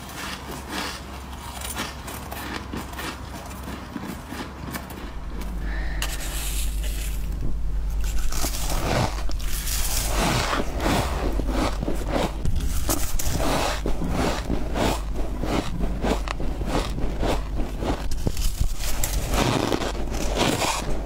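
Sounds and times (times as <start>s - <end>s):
crunching frost being eaten: 0.0s - 21.0s.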